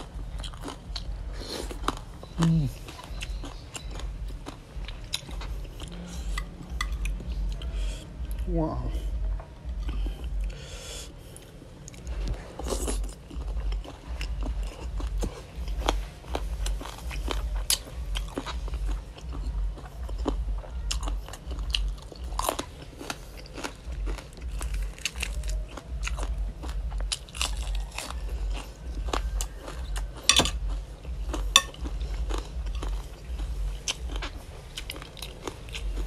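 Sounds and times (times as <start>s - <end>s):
wet chewing with crunches: 0.0s - 7.8s, 11.2s - 36.0s.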